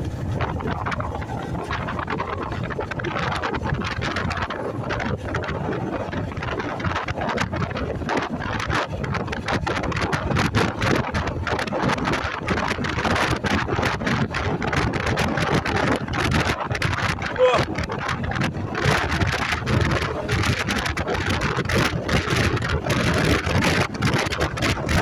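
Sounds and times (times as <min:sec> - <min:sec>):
motorcycle noise: 0:00.0 - 0:25.0
wind buffeting microphone: 0:00.0 - 0:25.0.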